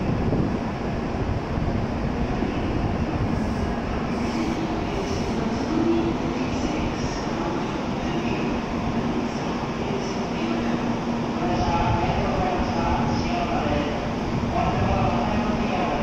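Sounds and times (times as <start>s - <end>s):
train equipment hum and rumble: 0.0s - 16.0s.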